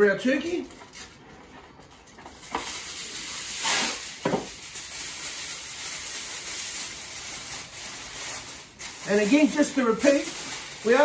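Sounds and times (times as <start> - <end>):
kitchen foil rustling and crinkling: 0.0 - 11.0.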